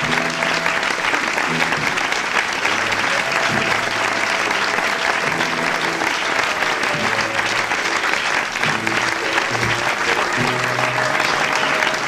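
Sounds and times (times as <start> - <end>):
audience applauding: 0.0 - 12.0
music playing: 0.0 - 12.0.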